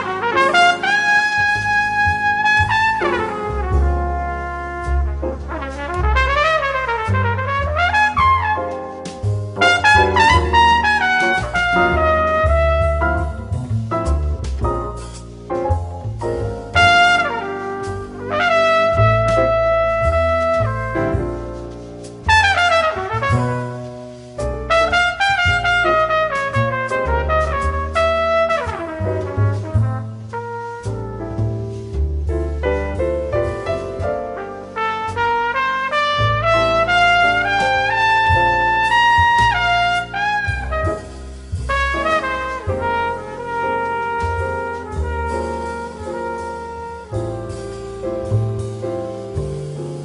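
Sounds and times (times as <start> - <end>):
trumpet and brass held notes: 0.0 - 13.6, 16.7 - 31.8, 33.6 - 48.8
lead instrument melody: 0.0 - 50.0
steady bass line: 0.0 - 50.0.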